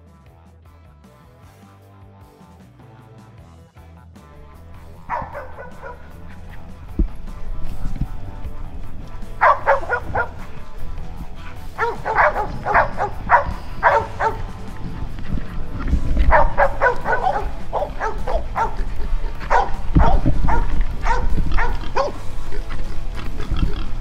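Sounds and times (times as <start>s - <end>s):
dogs barking: 4.3s - 24.0s.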